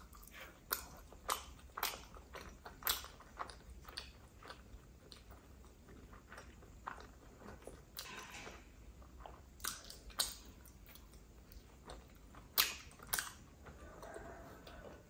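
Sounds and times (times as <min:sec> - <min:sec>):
close chewing: 0:00.0 - 0:15.0.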